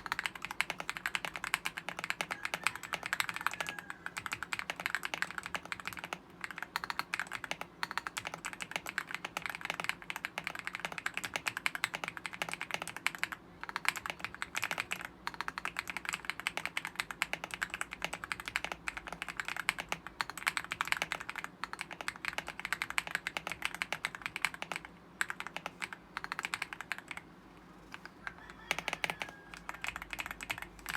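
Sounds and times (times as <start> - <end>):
mechanical keyboard typing: 0.0 - 27.3, 27.9 - 30.9.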